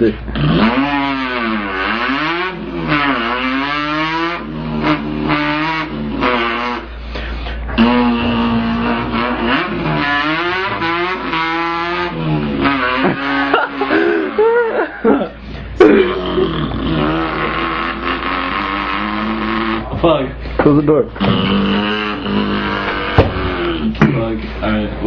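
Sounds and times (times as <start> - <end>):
man imitating car engine revving: 0.0 - 7.0, 7.6 - 20.1, 21.1 - 24.4.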